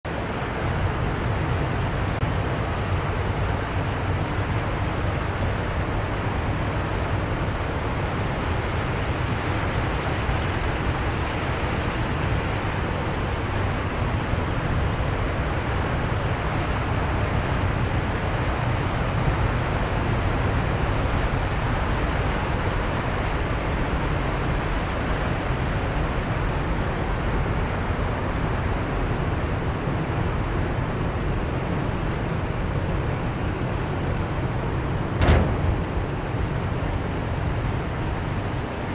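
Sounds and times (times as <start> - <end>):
churning water rushing: 0.0 - 38.9
constant low rumble: 0.0 - 38.9.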